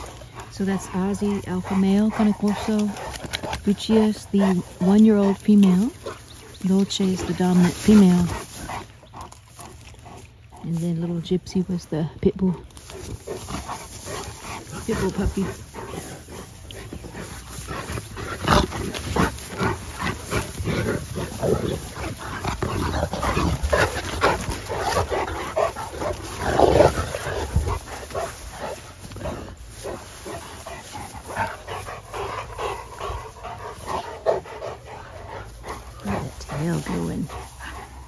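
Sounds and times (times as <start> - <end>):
dogs scuffling: 0.0 - 38.0
dogs vocalizing while playing: 0.0 - 38.0.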